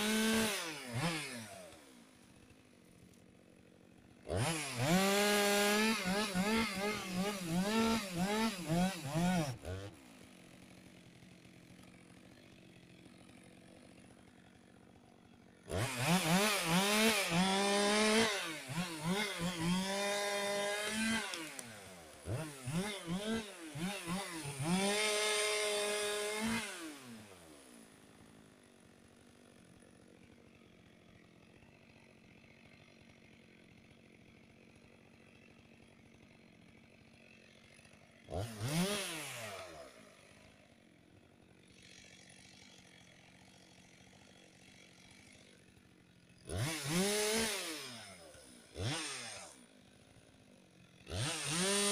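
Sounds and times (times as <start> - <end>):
chainsaw revving and cutting: 0.0 - 51.9.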